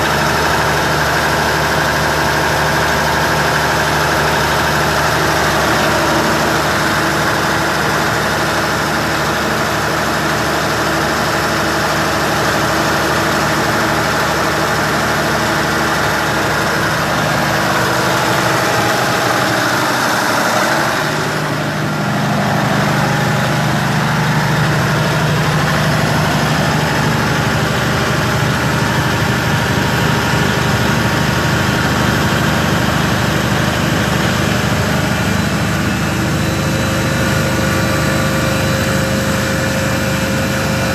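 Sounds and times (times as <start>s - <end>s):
machinery mechanical drone: 0.0s - 40.9s.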